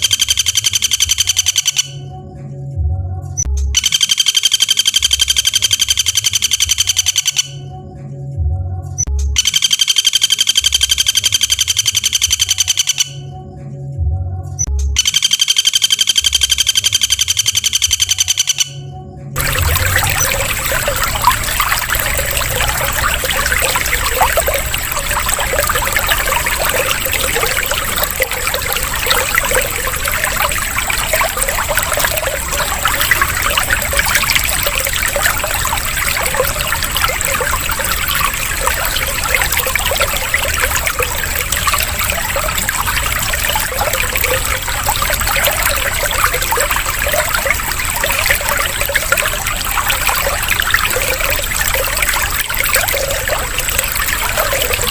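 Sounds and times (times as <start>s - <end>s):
water trickling and splashing: 0.0s - 1.9s, 3.4s - 7.6s, 9.2s - 13.1s, 14.8s - 18.6s, 19.4s - 54.9s.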